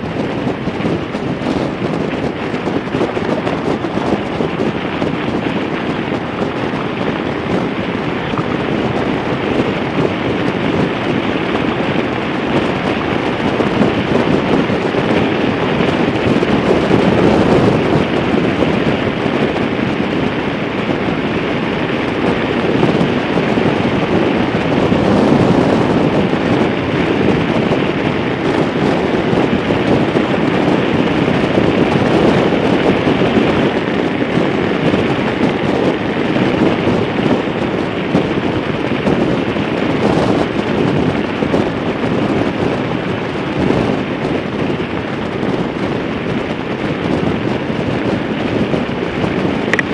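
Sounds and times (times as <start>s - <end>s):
motorcycle engine drone: 0.0s - 49.9s
wind buffeting microphone: 0.0s - 49.9s.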